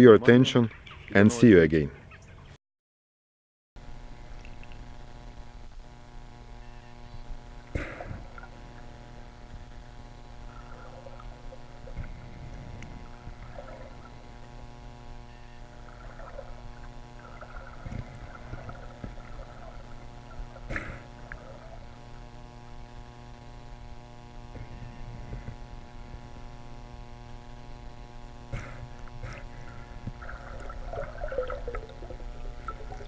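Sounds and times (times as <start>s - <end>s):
electrical hum: 3.8s - 33.0s
muffled underwater rumble: 3.8s - 33.0s.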